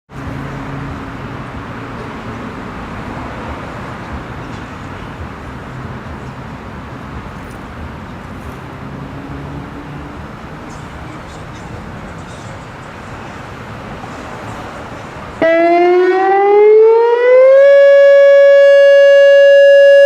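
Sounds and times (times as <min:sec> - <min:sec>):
road traffic noise: 0:00.1 - 0:20.0.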